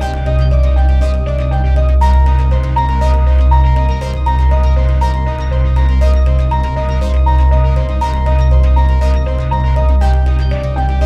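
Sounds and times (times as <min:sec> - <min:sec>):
deep synth drone: 0:00.0 - 0:11.0.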